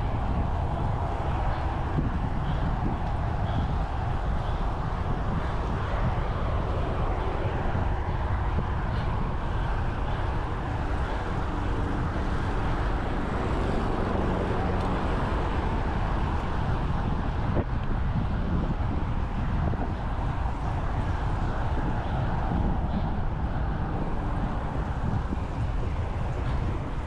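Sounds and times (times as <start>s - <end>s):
passing car traffic: 0.0s - 27.0s
wind rushing over microphone: 0.0s - 27.0s.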